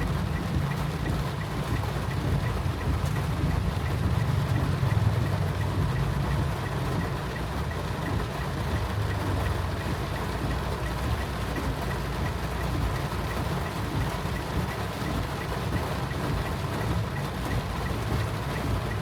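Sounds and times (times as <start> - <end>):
engine and road rumble: 0.0 - 19.0
faint regular ticking: 0.0 - 19.0.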